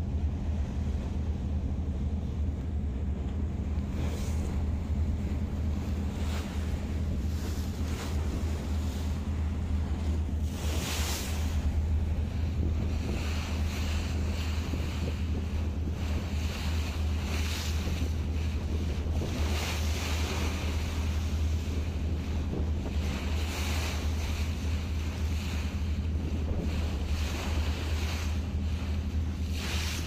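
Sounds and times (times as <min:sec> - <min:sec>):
boat engine drone: 0:00.0 - 0:30.0
waves splashing along hull: 0:00.0 - 0:30.0
wind buffeting microphone: 0:00.0 - 0:30.0.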